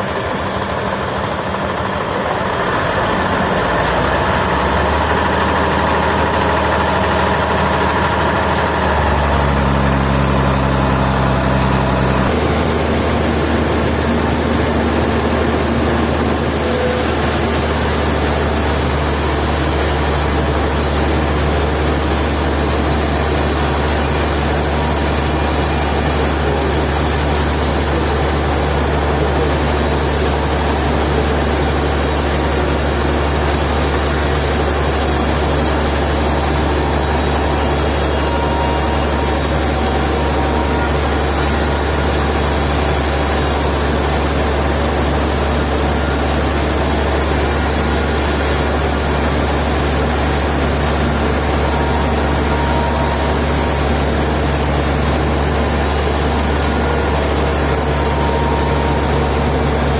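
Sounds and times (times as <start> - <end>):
heavy engine running: 0.0 - 59.9.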